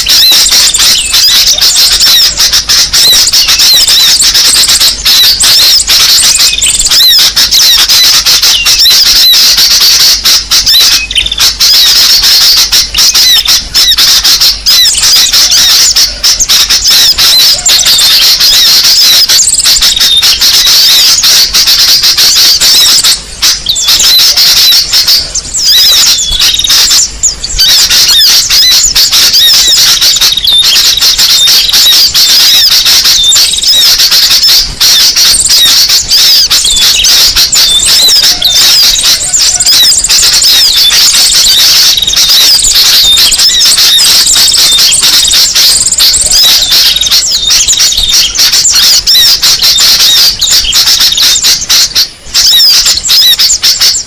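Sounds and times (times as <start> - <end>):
small birds chirping and trilling: 0.0 - 52.1, 52.8 - 54.0.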